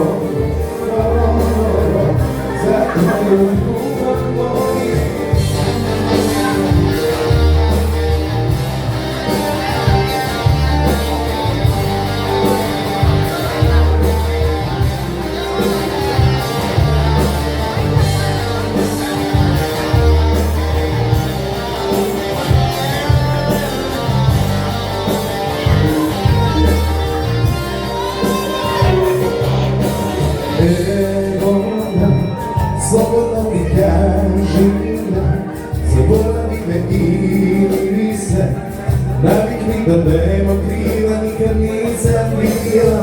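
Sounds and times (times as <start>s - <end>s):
bass line: 0.0s - 43.0s
guitar: 0.0s - 43.0s
steady beat: 0.0s - 43.0s.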